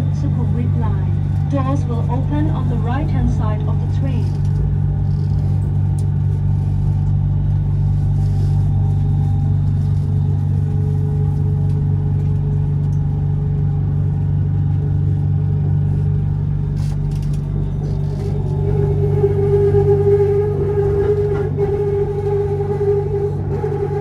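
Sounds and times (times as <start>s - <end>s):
metro train rumble inside car: 0.0s - 24.0s.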